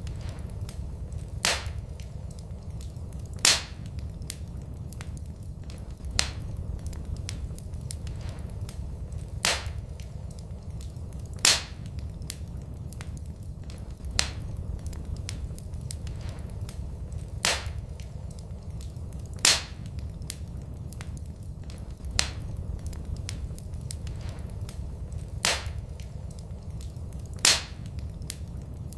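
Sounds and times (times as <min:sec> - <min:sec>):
burning wood popping: 0:00.0 - 0:28.9
fire rumbling and crackling: 0:00.0 - 0:28.9.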